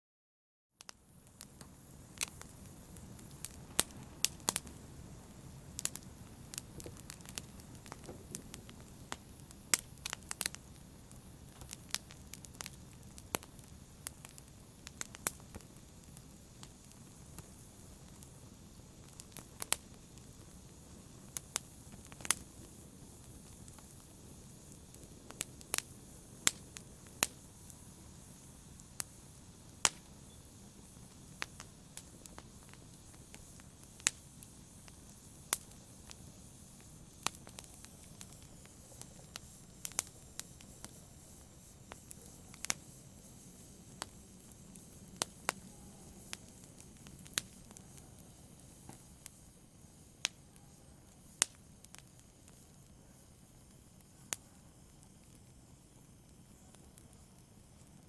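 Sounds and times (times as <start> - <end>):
fire crackles and pops: 0.8 - 58.0
wood fire rustling: 0.8 - 58.0.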